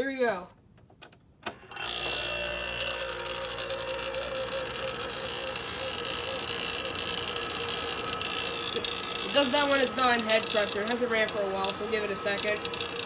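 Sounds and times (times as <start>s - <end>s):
window air conditioner running: 1.5s - 13.0s.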